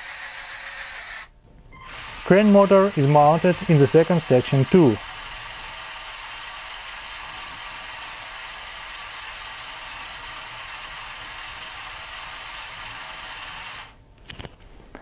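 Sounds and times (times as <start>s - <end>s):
electric motor gear whir: 0.0s - 13.9s.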